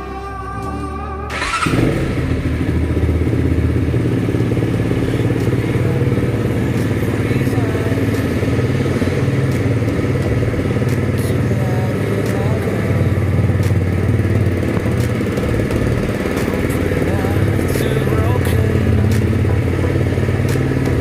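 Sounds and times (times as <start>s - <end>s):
music: 0.0s - 2.8s, 4.5s - 21.0s
motorcycle engine running: 0.0s - 21.0s.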